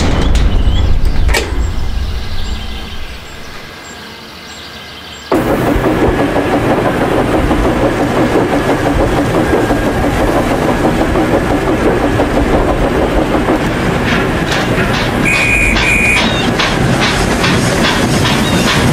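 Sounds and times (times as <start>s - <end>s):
train running on rails: 0.0s - 18.9s.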